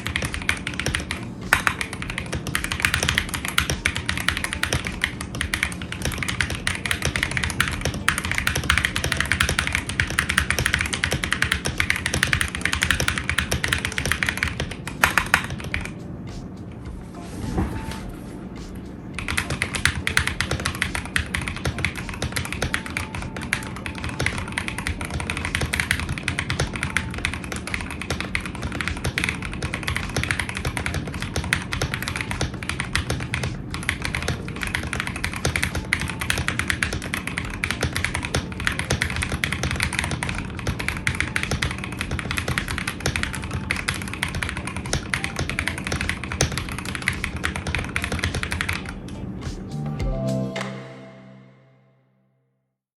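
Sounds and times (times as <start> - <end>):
fast typing on mechanical keyboard: 0.0 - 15.9, 19.2 - 49.1.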